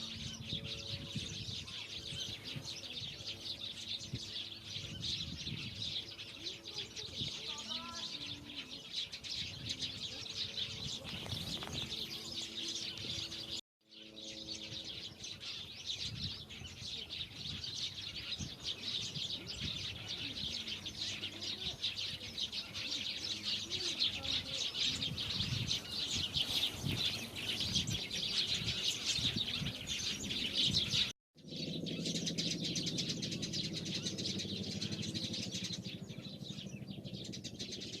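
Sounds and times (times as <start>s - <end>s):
many small birds chirping: 0.0s - 38.0s.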